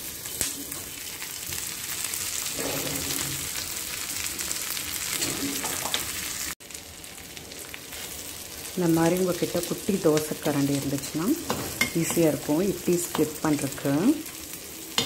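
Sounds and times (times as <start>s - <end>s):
butter sizzling on hot iron: 0.0s - 15.0s.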